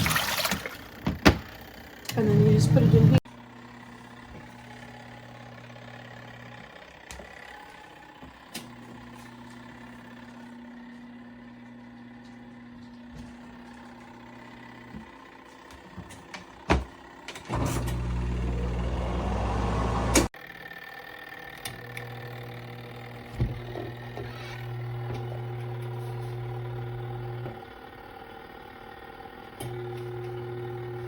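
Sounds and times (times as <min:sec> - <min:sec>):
washing machine motor humming: 0:00.0 - 0:20.3, 0:21.8 - 0:28.0, 0:28.9 - 0:31.0.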